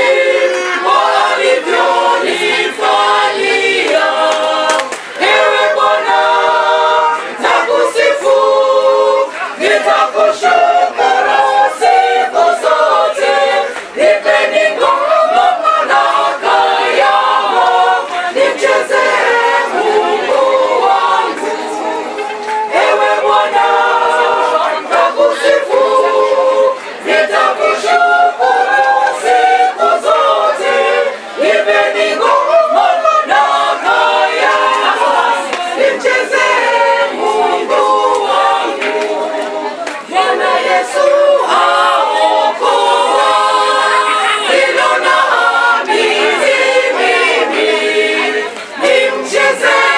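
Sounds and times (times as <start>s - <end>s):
church choir singing: 0.0s - 49.9s.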